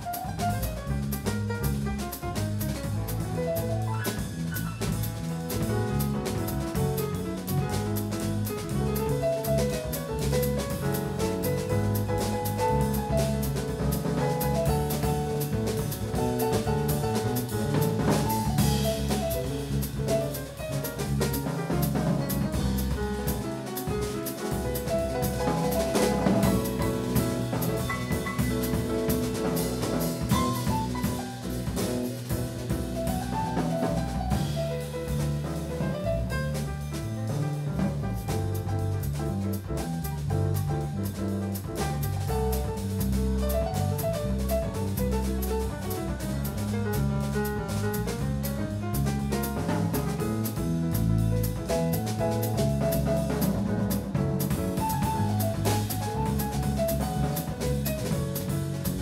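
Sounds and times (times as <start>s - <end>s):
drum kit and cymbals: 0.0s - 59.0s
piano: 0.0s - 59.0s.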